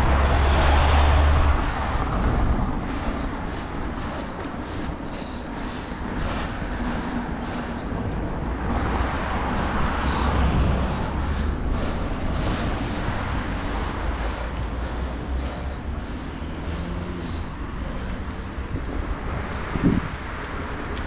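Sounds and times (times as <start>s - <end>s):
passing traffic: 0.0s - 21.0s
wind rumbling on microphone: 0.0s - 21.0s.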